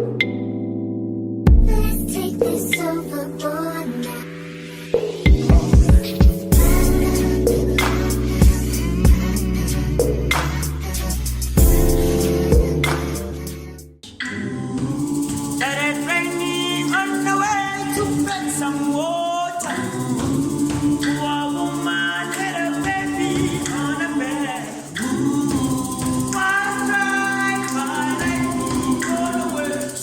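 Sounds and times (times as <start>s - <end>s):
people singing: 1.6s - 30.0s.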